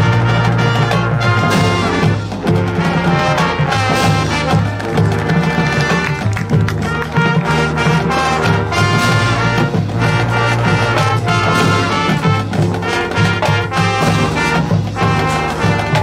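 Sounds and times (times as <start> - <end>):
brass section playing chords: 0.0 - 16.0
marching percussion: 0.0 - 16.0.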